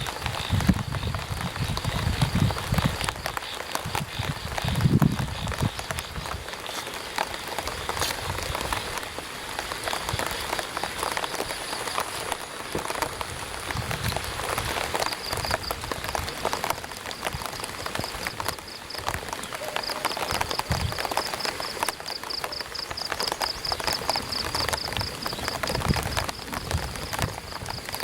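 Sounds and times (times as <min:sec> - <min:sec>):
light rain pattering on an umbrella: 0:00.0 - 0:28.0.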